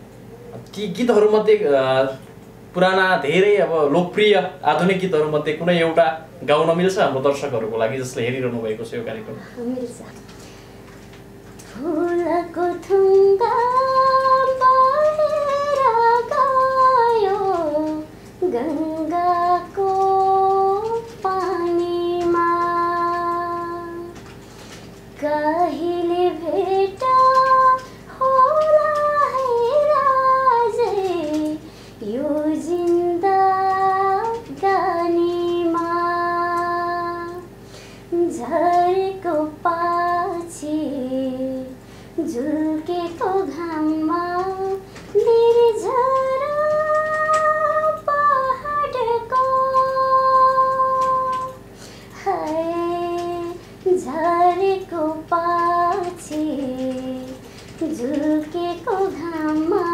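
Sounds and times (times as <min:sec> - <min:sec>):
woman singing unaccompanied: 0:09.5 - 0:10.3, 0:11.6 - 0:24.4, 0:25.1 - 0:59.9.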